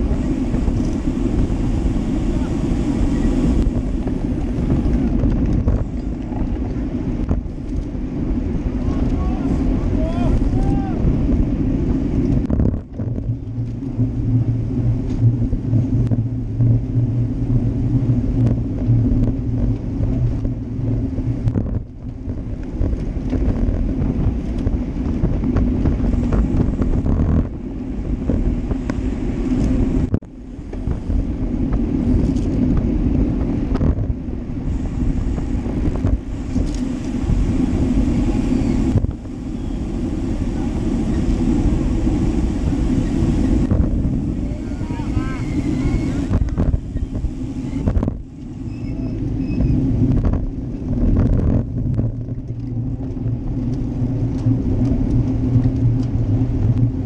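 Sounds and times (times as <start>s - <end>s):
road and tyre rumble: 0.0s - 57.0s
steady low hum: 0.0s - 57.0s
wind rushing over microphone: 0.0s - 57.0s.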